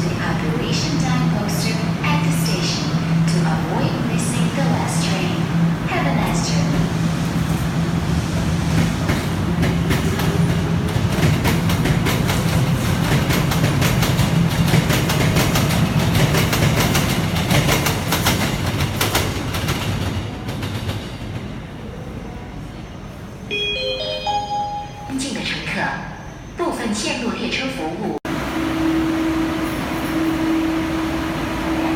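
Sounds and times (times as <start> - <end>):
train rumbling on track: 0.0 - 23.5, 28.2 - 31.9.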